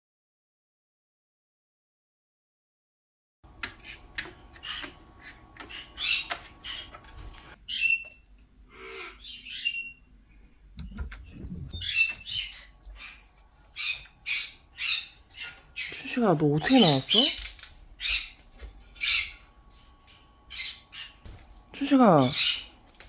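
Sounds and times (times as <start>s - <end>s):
parrots squawking: 3.6s - 10.1s, 10.8s - 23.0s.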